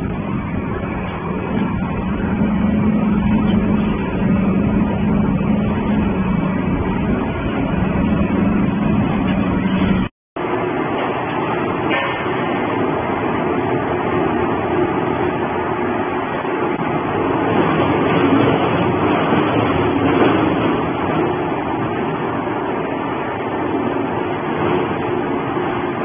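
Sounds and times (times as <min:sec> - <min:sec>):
industrial shredder running: 0:00.0 - 0:26.0.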